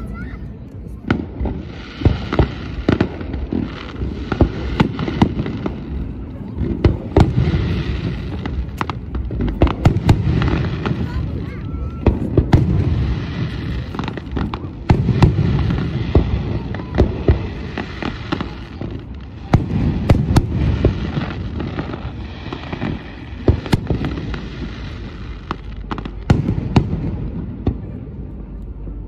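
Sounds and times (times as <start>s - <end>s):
fireworks bursting: 0.0s - 28.8s
continuous low rumble: 0.0s - 29.0s.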